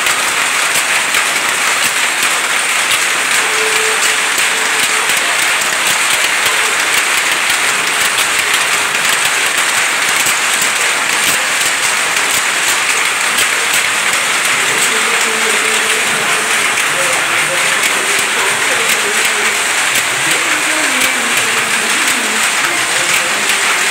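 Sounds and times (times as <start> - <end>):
power looms clattering: 0.0 - 23.9.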